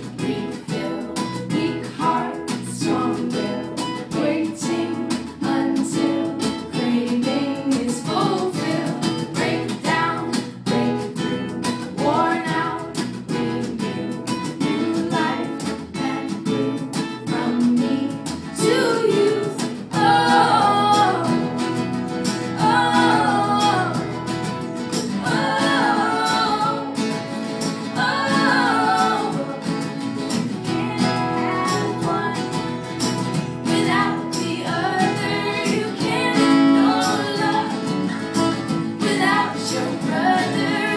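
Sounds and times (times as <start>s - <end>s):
strummed acoustic guitar: 0.0s - 40.9s
woman singing: 0.0s - 40.9s.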